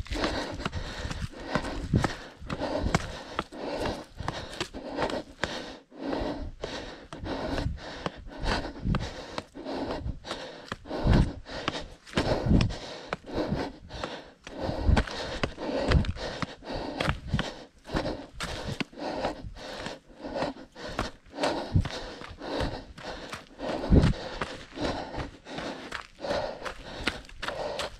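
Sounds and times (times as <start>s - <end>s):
footsteps on trail: 0.0s - 27.9s
person breathing hard: 0.0s - 27.9s.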